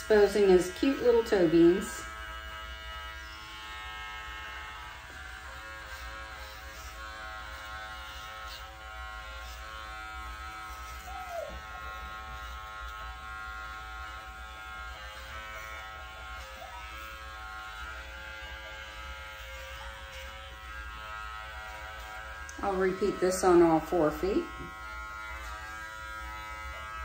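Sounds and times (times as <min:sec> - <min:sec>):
electric clipper buzzing: 0:00.0 - 0:27.0.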